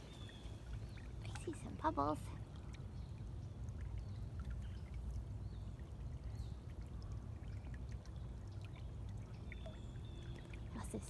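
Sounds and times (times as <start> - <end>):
small stream running: 0.0 - 11.0.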